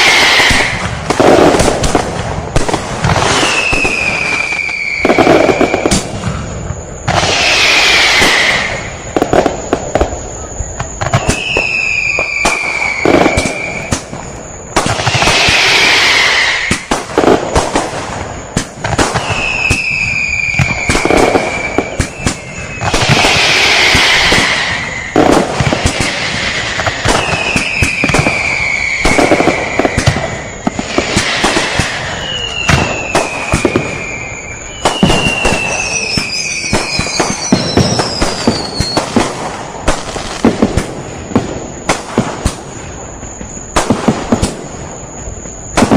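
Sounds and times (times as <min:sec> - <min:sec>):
firecrackers cracking and banging: 0:00.0 - 0:45.9
loud bursts of crackling: 0:00.0 - 0:45.9
whistling fireworks: 0:00.0 - 0:45.9.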